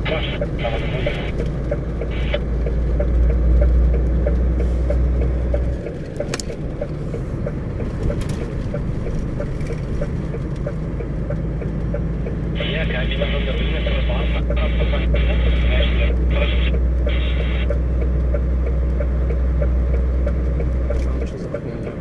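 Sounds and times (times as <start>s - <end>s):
engine and tyres rumble: 0.0s - 22.0s
faint regular ticking: 0.3s - 21.1s.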